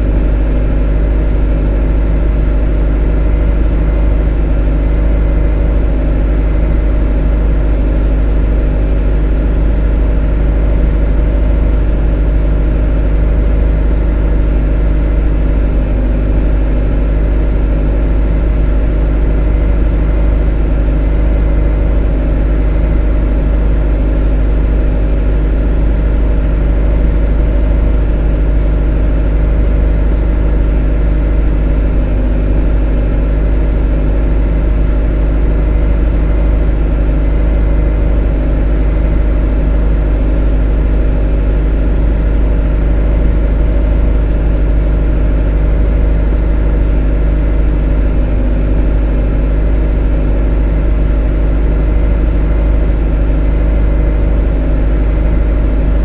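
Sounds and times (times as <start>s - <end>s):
motor humming: 0.0s - 56.0s.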